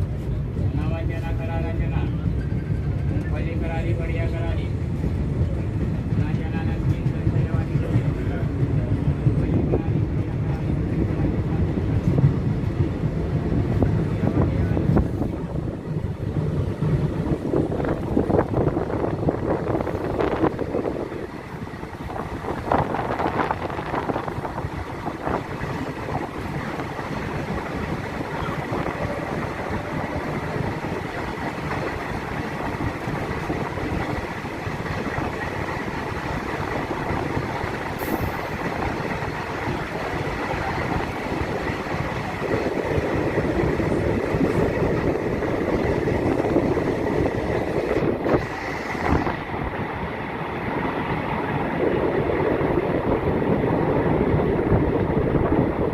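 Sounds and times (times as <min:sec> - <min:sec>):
passenger train rumbling: 0:00.0 - 0:55.9.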